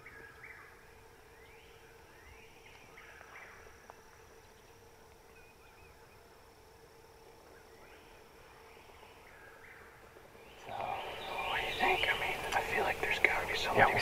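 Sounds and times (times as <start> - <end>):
distant birds chirping: 0.0 - 14.0
faint steady hum and hiss: 0.0 - 14.0.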